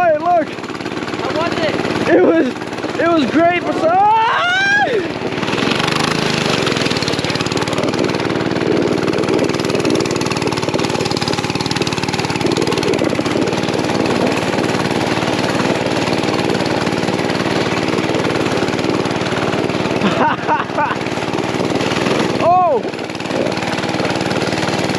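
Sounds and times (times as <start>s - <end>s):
small engine running: 0.0s - 24.9s.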